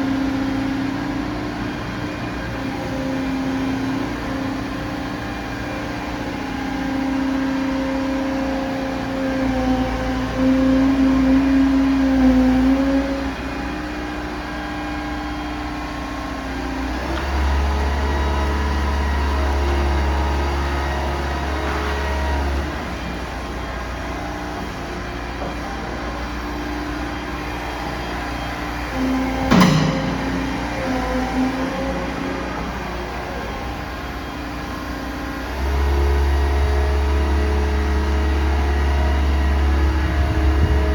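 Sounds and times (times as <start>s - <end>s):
diesel engine running with whine: 0.0s - 40.9s.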